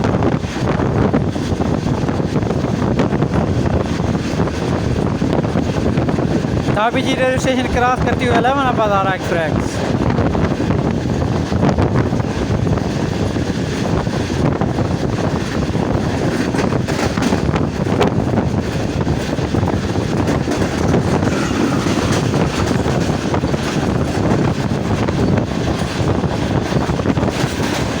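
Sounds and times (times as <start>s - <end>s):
train wheels rushing on rail: 0.0s - 28.0s.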